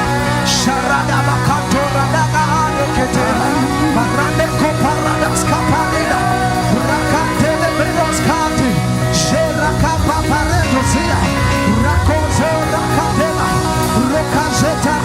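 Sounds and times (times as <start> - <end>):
people praying: 0.0 - 15.0
people singing: 0.0 - 15.0
sustained keyboard chords: 0.0 - 15.0.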